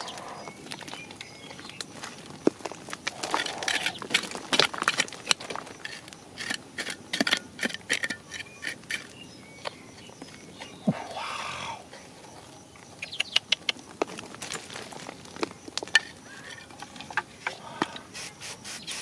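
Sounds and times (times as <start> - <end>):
hand scraping dry soil: 0.0 - 12.7, 13.7 - 19.0
dirt crumbs pattering down: 0.0 - 18.1.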